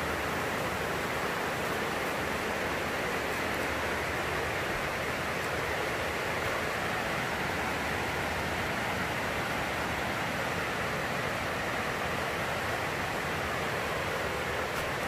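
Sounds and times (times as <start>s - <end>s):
heavy rain on a plastic roof: 0.0s - 15.0s.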